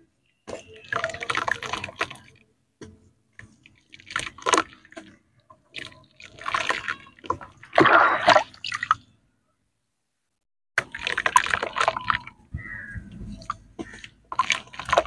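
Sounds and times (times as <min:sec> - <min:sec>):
water dripping and splashing: 0:00.5 - 0:09.2, 0:10.8 - 0:15.0.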